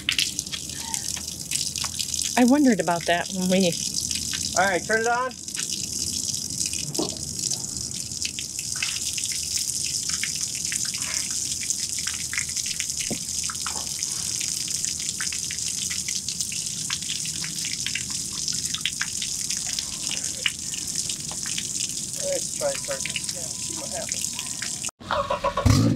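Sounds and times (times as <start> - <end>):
water drips and splashes: 0.0 - 24.9
water splattering on paving: 0.0 - 24.9.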